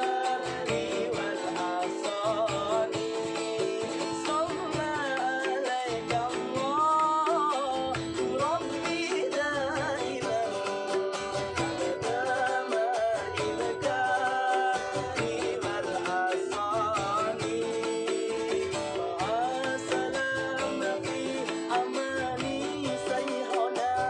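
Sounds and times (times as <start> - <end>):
person singing: 0.0 - 24.0
plucked guitar: 0.0 - 24.0.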